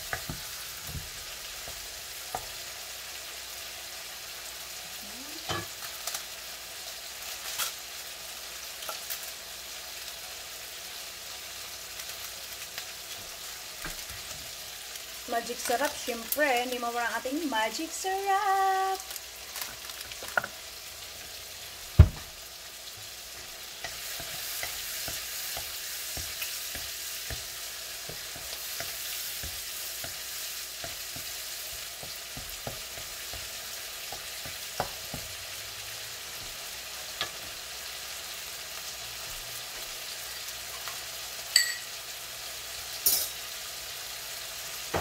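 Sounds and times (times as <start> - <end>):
garlic sizzling in oil: 0.0 - 45.0.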